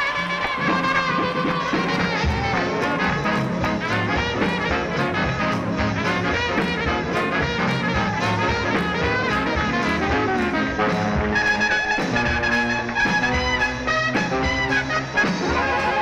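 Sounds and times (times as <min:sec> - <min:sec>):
swing jazz with brass: 0:00.0 - 0:16.0.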